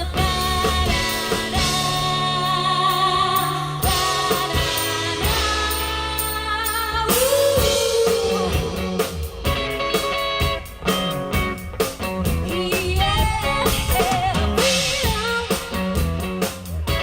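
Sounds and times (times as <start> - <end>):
woman singing: 0.0 - 10.1, 12.4 - 17.0
drum kit: 0.0 - 17.0
guitar: 0.0 - 17.0.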